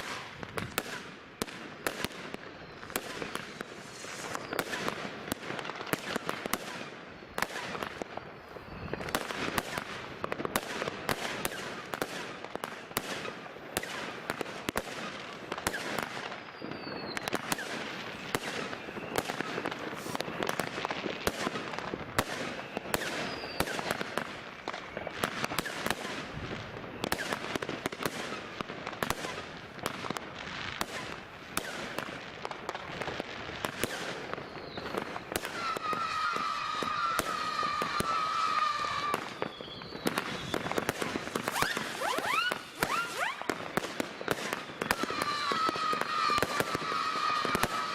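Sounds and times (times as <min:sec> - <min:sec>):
firecrackers and rockets banging: 0:00.0 - 0:47.9
fireworks falling whistles: 0:00.0 - 0:47.9.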